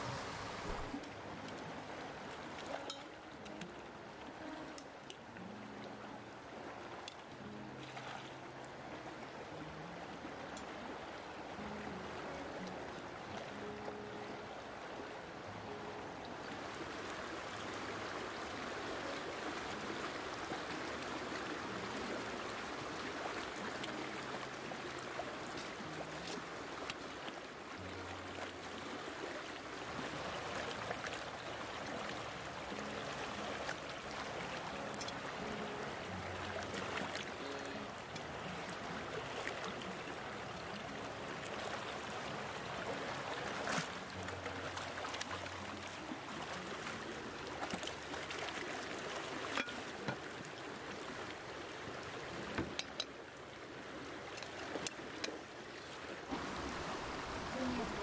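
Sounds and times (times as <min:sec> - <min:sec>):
water splashes: 0:00.0 - 0:14.2, 0:14.8 - 0:58.0
soft background music: 0:00.0 - 0:56.3
stream water running: 0:00.0 - 0:58.0.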